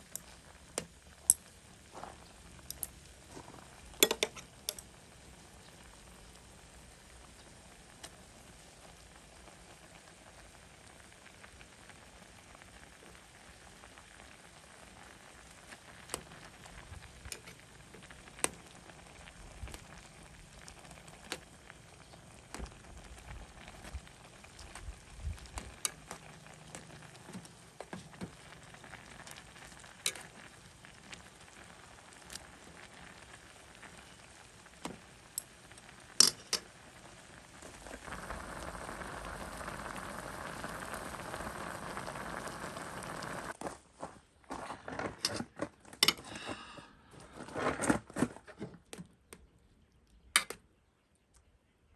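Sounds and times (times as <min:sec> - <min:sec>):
faint sizzling hiss: 0:00.0 - 0:44.6.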